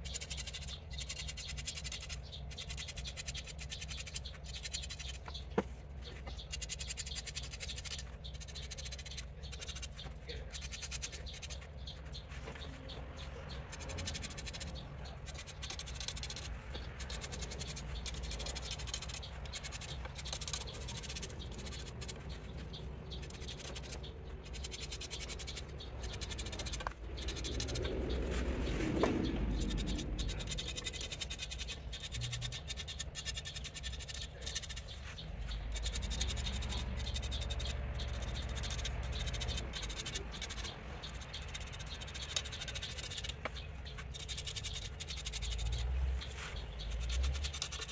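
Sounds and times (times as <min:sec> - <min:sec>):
marker pen scratching: 0:00.0 - 0:47.9
rubbing shuffle: 0:03.6 - 0:47.9.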